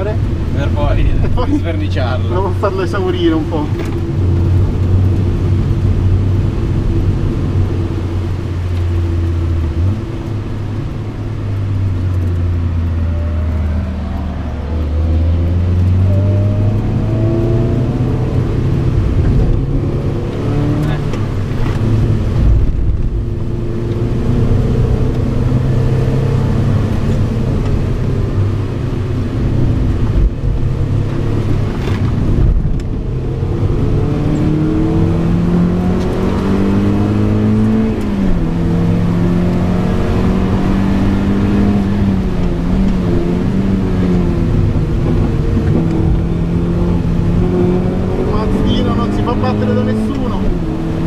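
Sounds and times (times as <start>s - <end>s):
car engine running hard: 0.0s - 51.0s.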